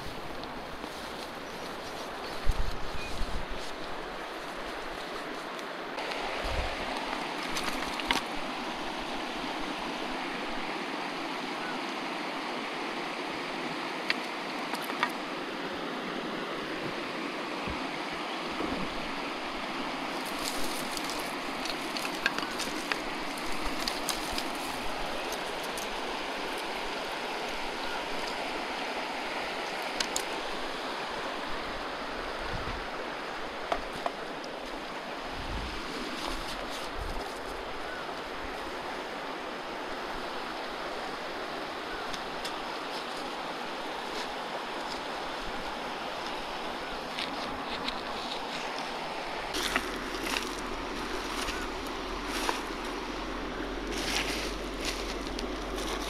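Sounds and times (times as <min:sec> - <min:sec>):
river rushing: 0:03.5 - 0:56.0.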